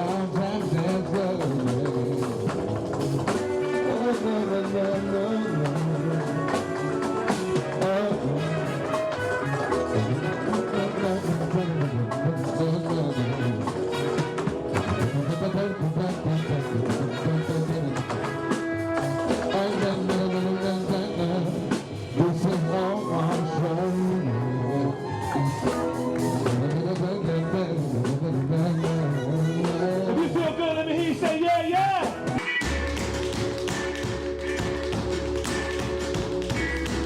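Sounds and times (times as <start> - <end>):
jazz music with horns: 0.0 - 37.0.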